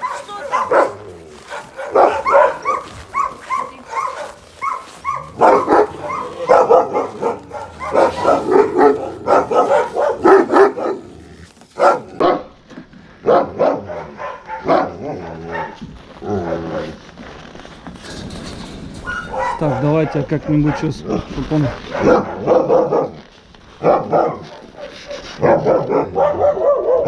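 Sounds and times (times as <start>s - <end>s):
dogs barking: 0.0s - 12.6s, 13.2s - 17.0s, 18.9s - 27.0s.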